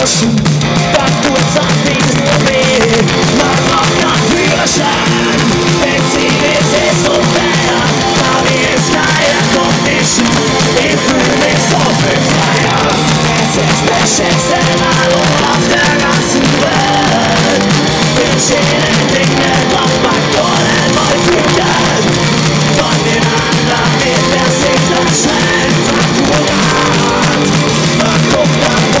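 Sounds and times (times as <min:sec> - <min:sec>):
bass guitar: 0:00.0 - 0:29.0
drums: 0:00.0 - 0:29.0
electric guitars: 0:00.0 - 0:29.0.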